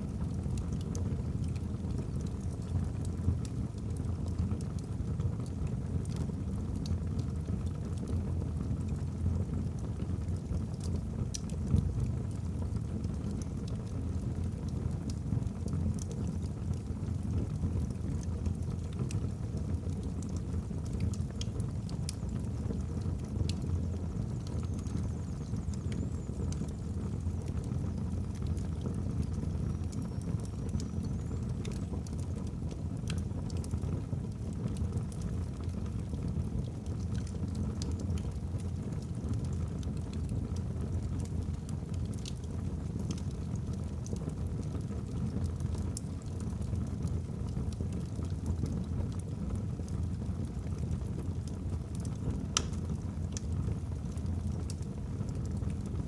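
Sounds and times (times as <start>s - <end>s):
logs crackling and popping: 0.1s - 6.2s, 10.5s - 55.9s.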